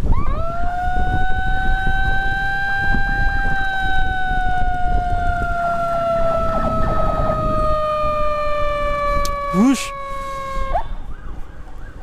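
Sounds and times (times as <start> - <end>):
emergency siren: 0.0 - 12.0.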